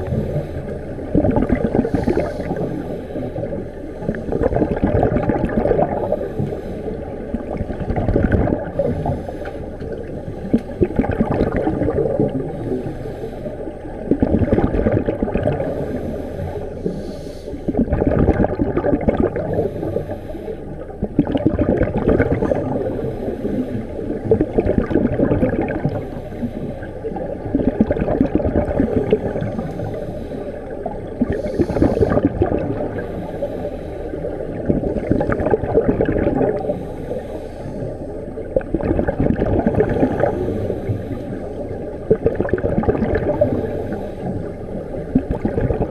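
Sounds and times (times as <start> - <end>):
scuba regulator bubbles gurgling: 0.0 - 45.9.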